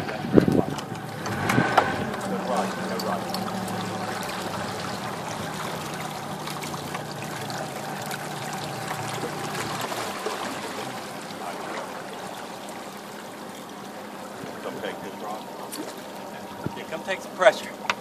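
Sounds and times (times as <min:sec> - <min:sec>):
low steady hum: 0:00.0 - 0:18.0
water sloshing around boat: 0:00.0 - 0:18.0.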